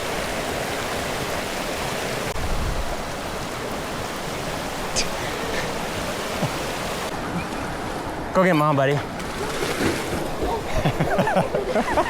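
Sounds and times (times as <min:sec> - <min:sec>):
fast-flowing creek rushing: 0:00.0 - 0:12.0.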